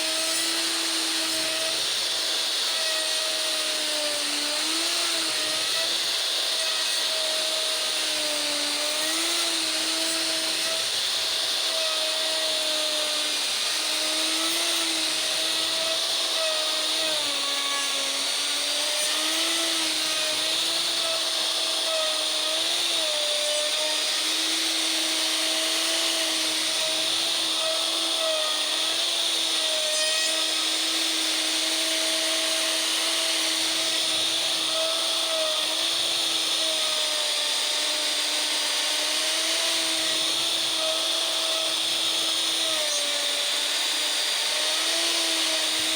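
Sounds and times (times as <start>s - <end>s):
router whining and hissing: 0.0s - 45.9s.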